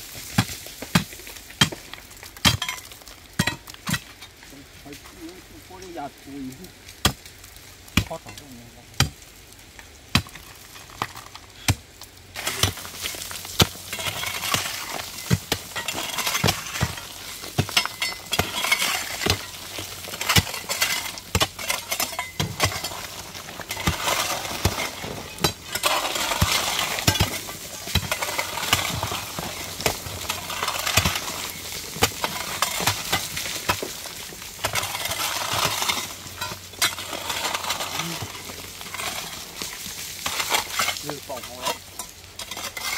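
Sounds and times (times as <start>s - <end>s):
crackling hiss: 0.0s - 42.9s.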